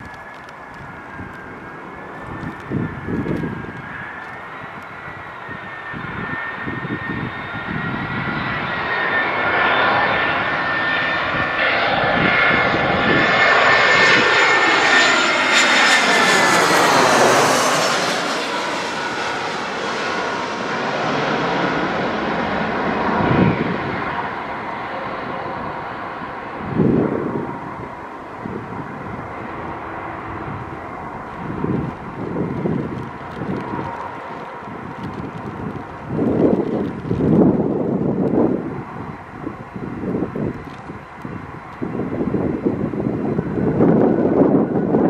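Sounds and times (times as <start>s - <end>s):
jet airliner engines passing: 0.0s - 45.0s.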